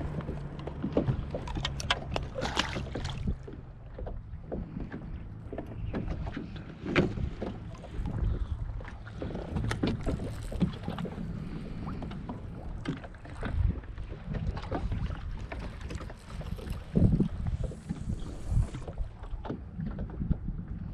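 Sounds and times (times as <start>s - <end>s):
gear knocking against kayak hull: 0.0s - 20.6s
low rumble of water: 0.0s - 20.9s
wind buffeting microphone: 0.0s - 20.9s.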